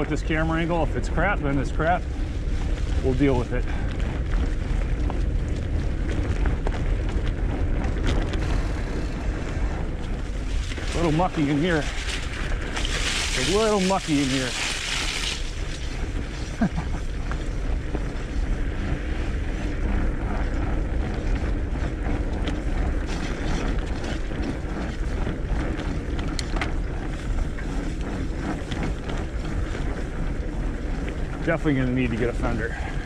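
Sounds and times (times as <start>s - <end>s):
bike tires rolling through mud: 0.0s - 33.0s
small crackles and rattles: 0.0s - 33.0s
wind on microphone: 0.0s - 33.0s.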